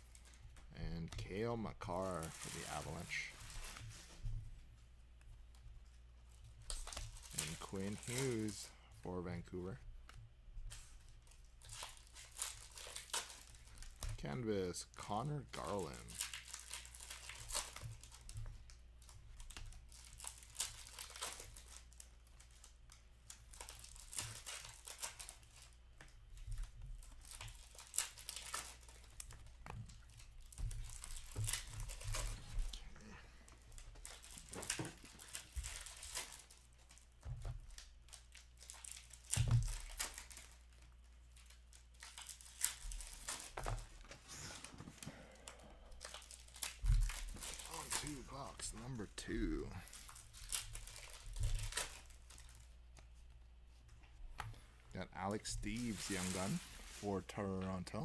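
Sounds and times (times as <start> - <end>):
foil wrappers crinkling and tearing: 1.8 - 4.2, 6.6 - 8.8, 10.7 - 53.2, 55.0 - 58.0
cards riffled and rustling: 1.9 - 8.8, 15.0 - 58.0.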